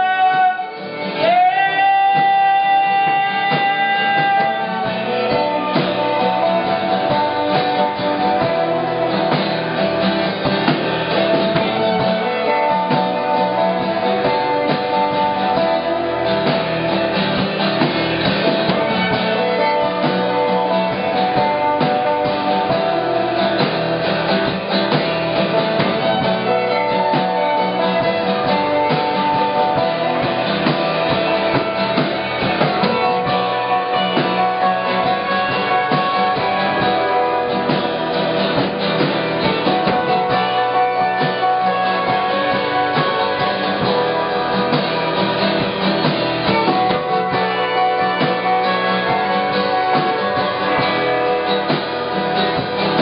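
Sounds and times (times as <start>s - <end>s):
drum kit: 0.0s - 53.0s
electric bass: 0.0s - 53.0s
electric guitar: 0.0s - 53.0s
strummed acoustic guitar: 0.0s - 53.0s
violin: 0.0s - 53.0s.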